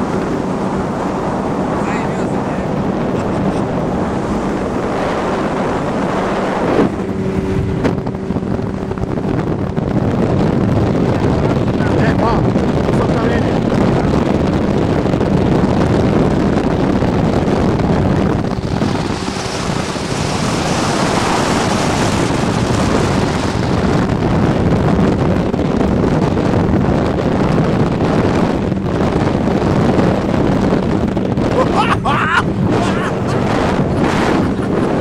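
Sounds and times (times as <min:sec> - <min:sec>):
outboard motor running: 0:00.0 - 0:35.0
water rushing past hull: 0:00.0 - 0:35.0
wind buffeting microphone: 0:00.0 - 0:35.0.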